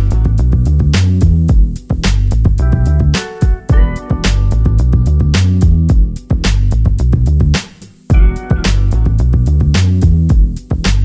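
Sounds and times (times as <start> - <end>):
instrumental music with drums and bass: 0.0 - 11.0.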